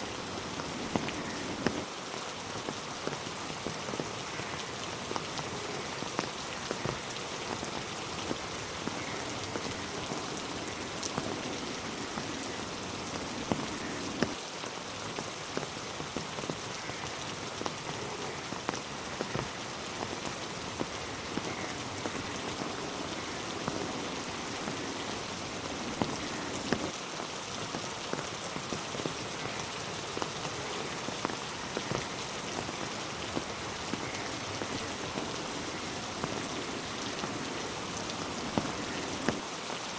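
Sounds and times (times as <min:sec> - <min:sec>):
raindrops tapping close by: 0:00.0 - 0:39.9
steady rain falling: 0:00.0 - 0:39.9.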